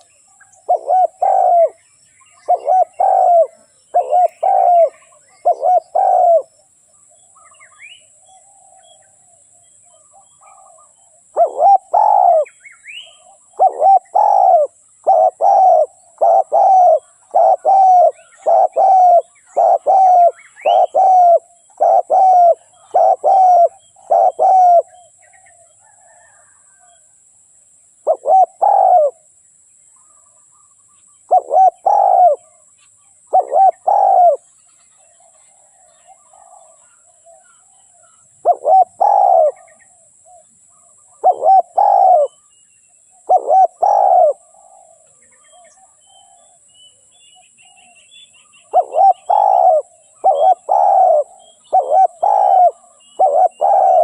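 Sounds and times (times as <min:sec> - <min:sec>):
dove cooing: 0:00.0 - 0:06.6, 0:10.0 - 0:27.0, 0:28.0 - 0:29.3, 0:31.3 - 0:32.6, 0:33.3 - 0:34.5, 0:35.2 - 0:42.5, 0:43.2 - 0:46.6, 0:48.6 - 0:54.0
faint small bird chirps: 0:00.0 - 0:27.2, 0:29.9 - 0:54.0.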